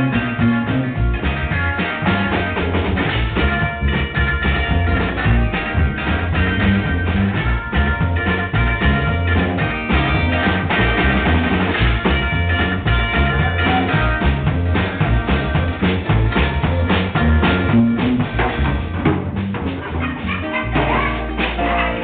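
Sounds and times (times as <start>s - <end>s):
drum kit beat: 0.0s - 22.0s
electric guitars: 0.0s - 22.0s
heavy low bass: 0.0s - 22.0s.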